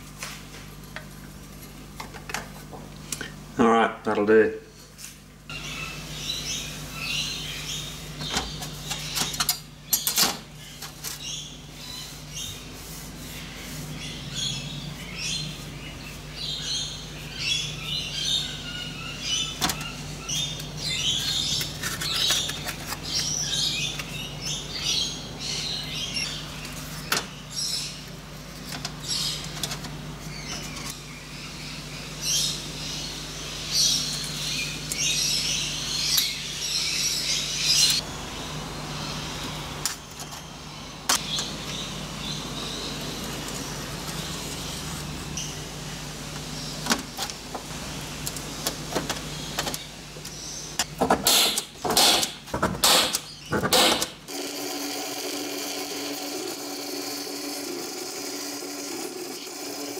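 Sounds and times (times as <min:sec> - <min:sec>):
steady low hum: 0:00.0 - 0:55.0
small birds chirping: 0:05.5 - 0:54.0.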